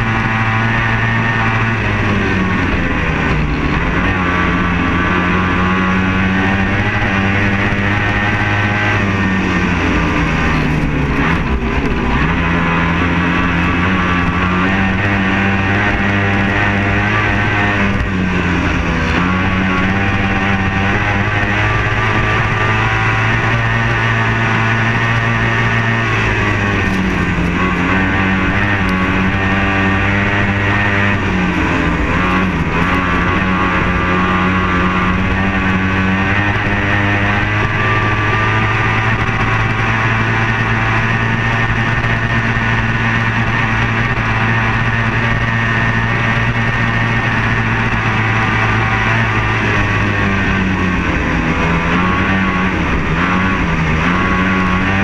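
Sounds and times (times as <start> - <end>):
outboard engine at high revs: 0.0 - 55.0
wind noise: 0.0 - 55.0.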